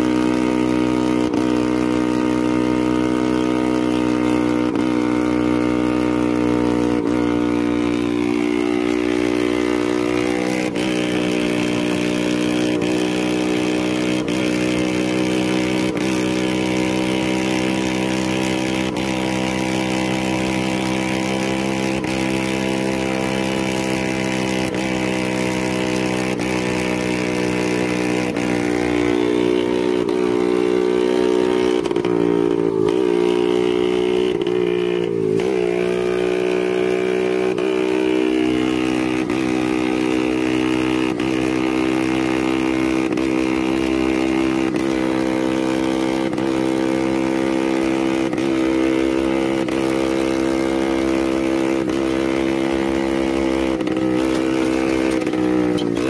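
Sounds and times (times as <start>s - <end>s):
motorbike engine cruising: 0.0s - 56.0s.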